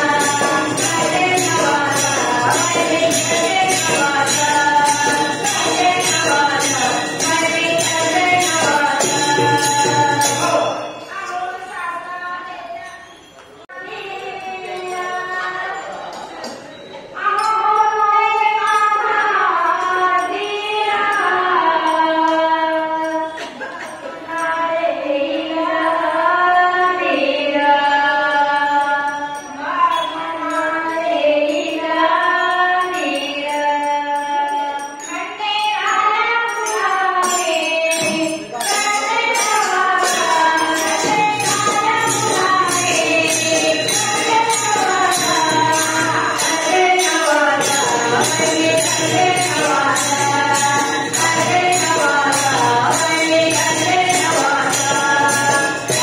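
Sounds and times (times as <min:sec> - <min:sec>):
jingling percussion beat: 0:00.0 - 0:56.0
person singing devotional song: 0:00.0 - 0:56.0.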